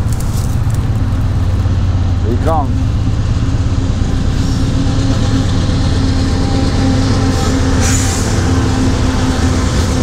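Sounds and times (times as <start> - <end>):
freight train rumbling past: 0.0 - 10.0
train engine hum: 0.0 - 10.0.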